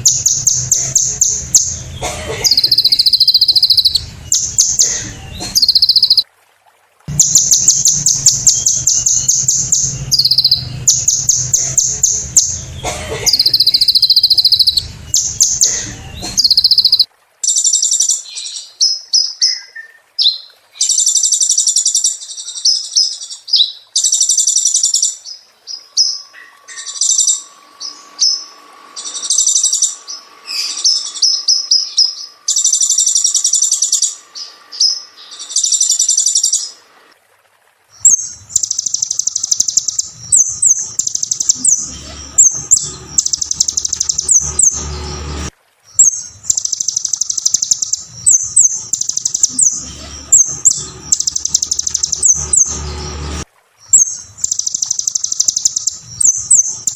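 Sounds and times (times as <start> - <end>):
bird singing rapid twittering: 0.0 - 6.2, 7.1 - 36.8, 38.0 - 56.9.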